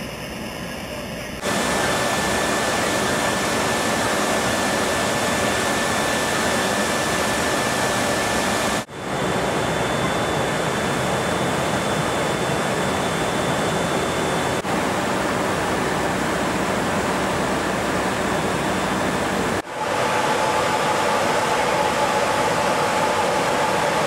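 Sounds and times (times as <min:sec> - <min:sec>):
aircraft cabin engine rush: 0:00.0 - 0:24.0
faint high whine: 0:00.0 - 0:24.0.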